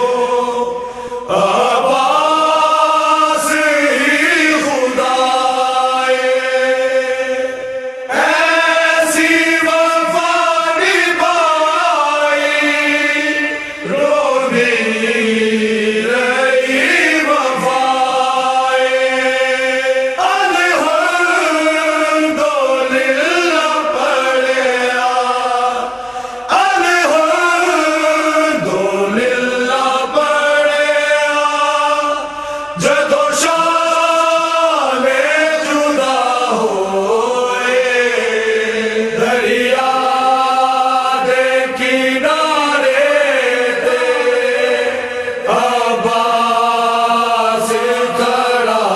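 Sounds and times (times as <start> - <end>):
man singing mourning chant: 0.0 - 48.9.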